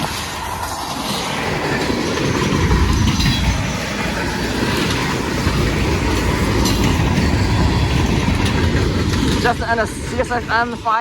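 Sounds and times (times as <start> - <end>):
freight train wheels on rails: 0.0 - 11.0.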